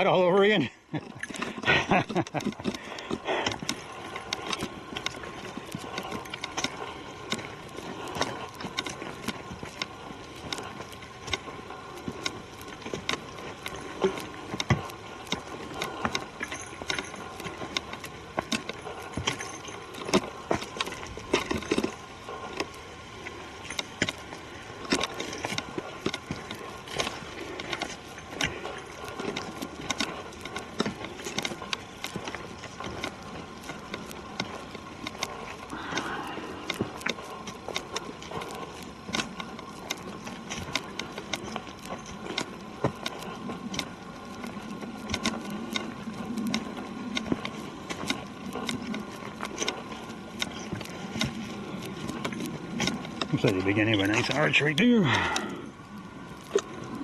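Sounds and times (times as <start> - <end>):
footsteps on forest trail: 0.0 - 57.0.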